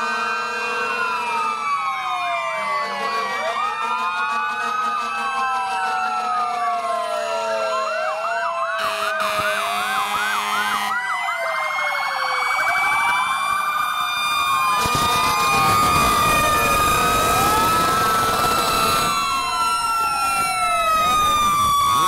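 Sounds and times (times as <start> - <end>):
fire truck sirens wailing: 0.0 - 22.0.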